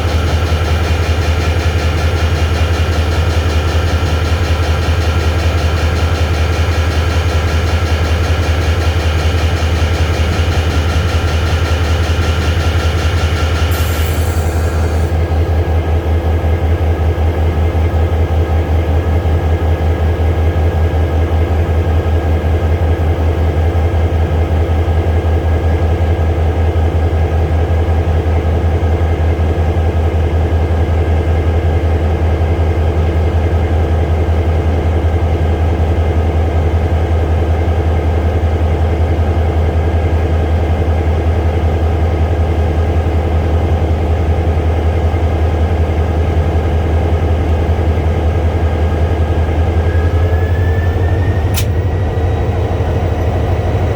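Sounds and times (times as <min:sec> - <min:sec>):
diesel train engine idling: 0:00.0 - 0:53.9.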